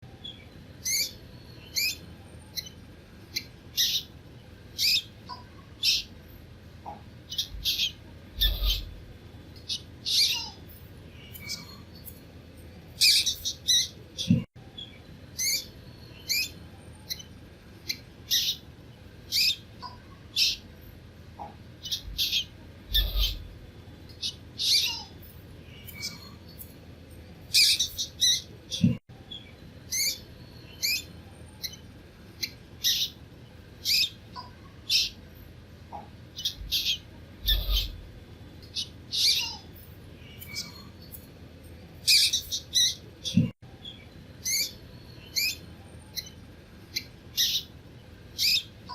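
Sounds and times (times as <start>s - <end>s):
baby mice squeaking: 0.2s - 6.2s, 6.8s - 12.2s, 13.0s - 18.7s, 19.3s - 20.7s, 21.4s - 26.8s, 27.5s - 33.2s, 33.8s - 35.2s, 35.9s - 38.1s, 38.7s - 41.2s, 42.0s - 47.8s, 48.4s - 48.9s.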